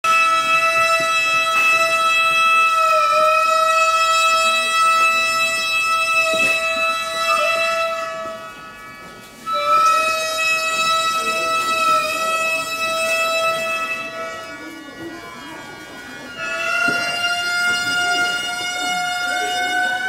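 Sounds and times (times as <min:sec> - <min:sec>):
wind instrument playing long notes: 0:00.0 - 0:20.0.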